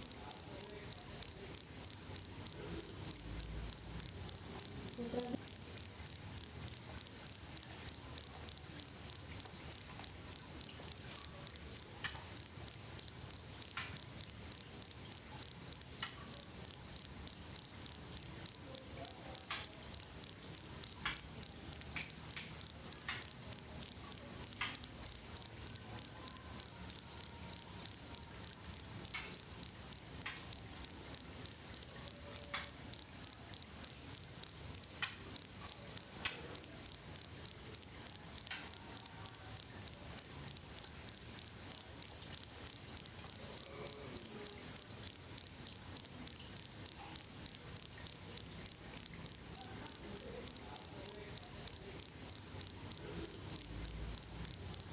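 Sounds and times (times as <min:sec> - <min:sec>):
cricket chirping: 0:00.0 - 0:54.9.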